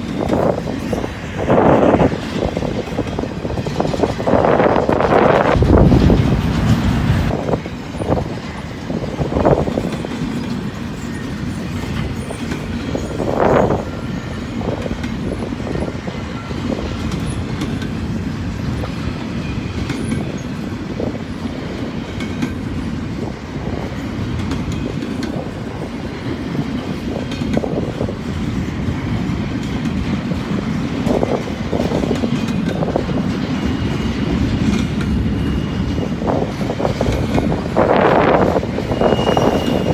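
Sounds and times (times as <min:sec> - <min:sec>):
freight train cars rumbling: 0:00.0 - 0:39.9
wheels clacking over rail joints: 0:00.0 - 0:39.9.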